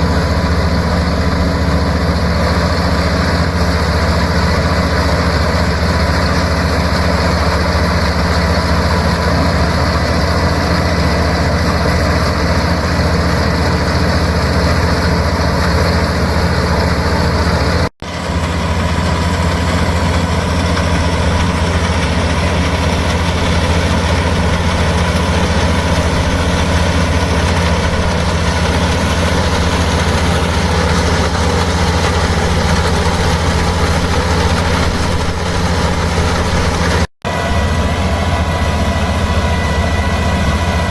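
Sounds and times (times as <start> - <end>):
harvesting machine engine droning: 0.0 - 40.9.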